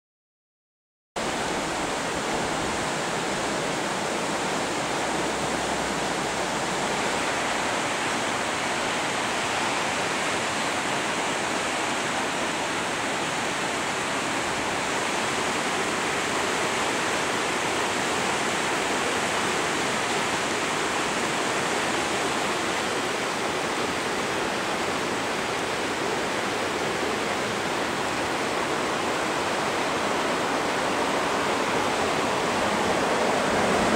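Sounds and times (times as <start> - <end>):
river water rushing: 1.2 - 33.9.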